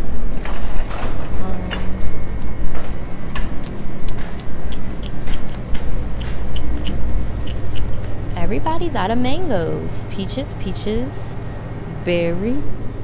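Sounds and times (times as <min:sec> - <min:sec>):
freezer hum: 0:00.0 - 0:13.0.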